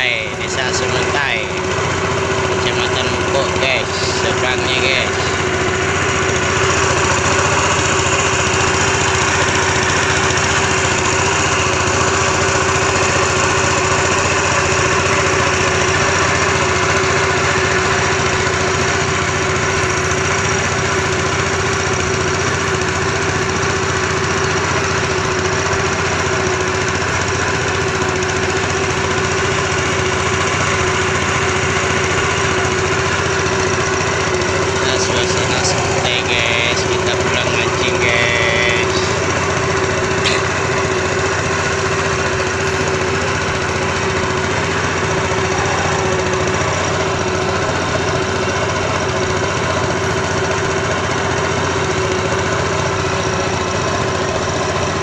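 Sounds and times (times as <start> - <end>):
small engine running steadily: 0.0 - 55.0.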